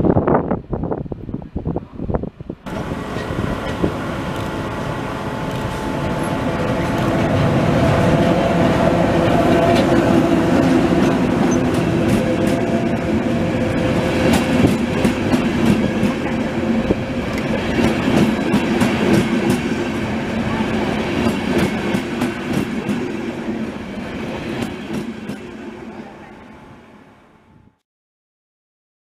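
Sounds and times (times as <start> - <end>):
train rumbling past: 0.0 - 27.8.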